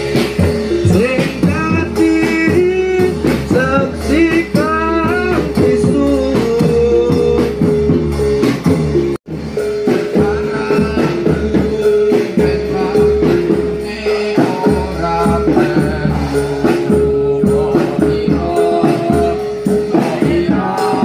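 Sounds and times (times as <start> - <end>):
upbeat music with steady beat: 0.0 - 21.0
person singing: 0.7 - 7.9, 9.6 - 21.0.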